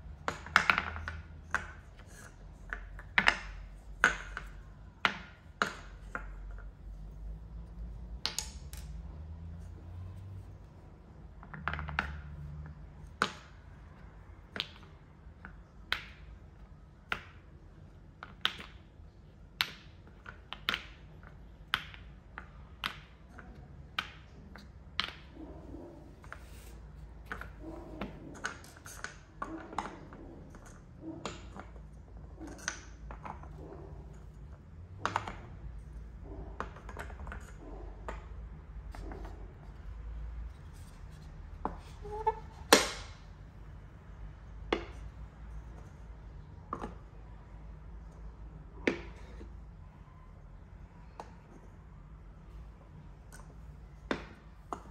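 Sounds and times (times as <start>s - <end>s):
wooden balls clacking: 0.0s - 47.3s, 47.9s - 49.6s, 53.3s - 54.9s.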